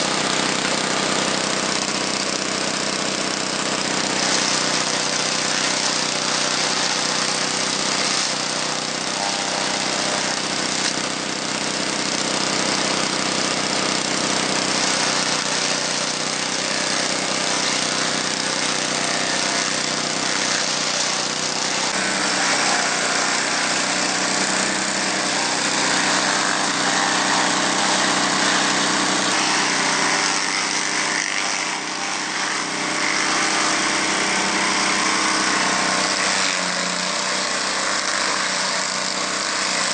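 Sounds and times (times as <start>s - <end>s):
cutter chopping leaves and stems: 0.0s - 39.9s
small petrol engine running: 0.0s - 39.9s.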